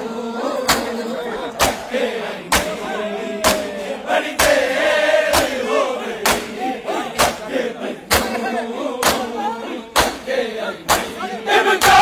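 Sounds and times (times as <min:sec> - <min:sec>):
men chanting: 0:00.0 - 0:12.0
people slapping chests: 0:00.6 - 0:12.0.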